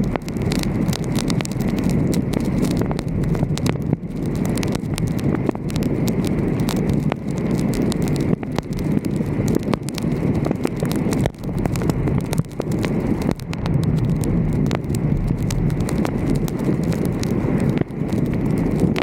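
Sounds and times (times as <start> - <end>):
raindrops ticking on camera: 0.0 - 19.0
wind rushing over microphone: 0.0 - 19.0.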